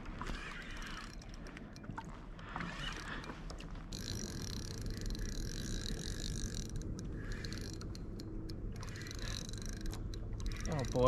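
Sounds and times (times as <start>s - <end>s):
fishing reel whirring: 0.2s - 1.4s, 2.5s - 3.3s, 3.9s - 11.0s.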